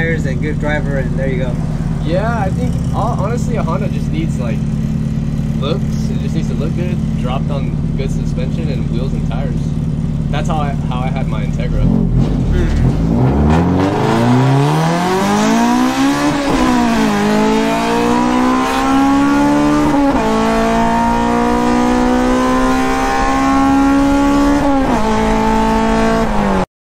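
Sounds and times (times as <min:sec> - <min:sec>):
car engine accelerating and upshifting: 0:00.0 - 0:26.6.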